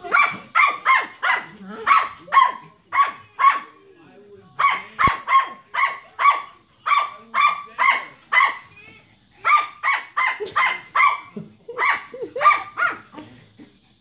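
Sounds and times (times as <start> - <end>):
small dogs barking: 0.0 - 3.8, 4.6 - 8.7, 9.4 - 13.2.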